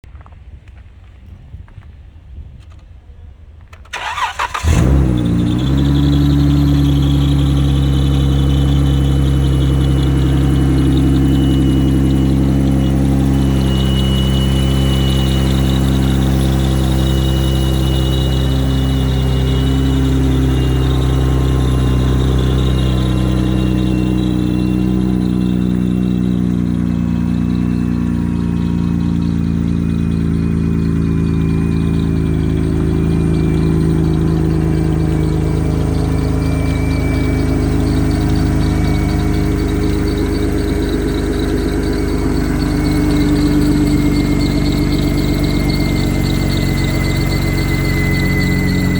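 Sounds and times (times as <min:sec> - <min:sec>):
car engine idling: 0:03.8 - 0:48.9
thin high whine: 0:04.2 - 0:48.9.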